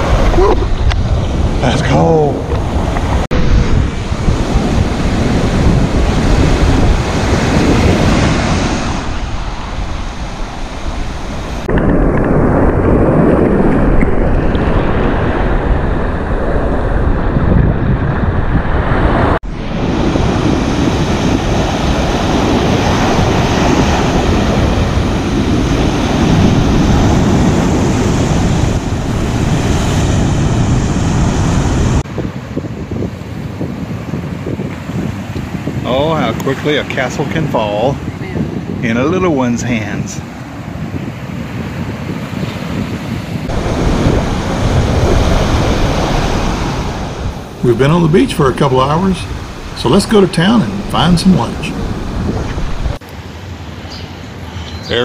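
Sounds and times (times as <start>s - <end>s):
surf breaking on beach: 0.0s - 54.4s
wind buffeting microphone: 0.0s - 55.0s.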